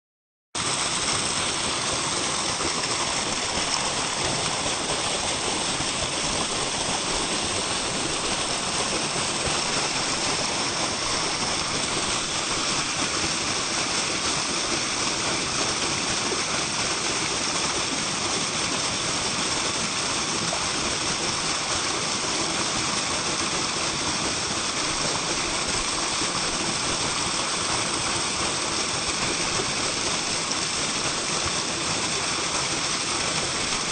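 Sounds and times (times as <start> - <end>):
waterfall splashing: 0.6 - 33.9.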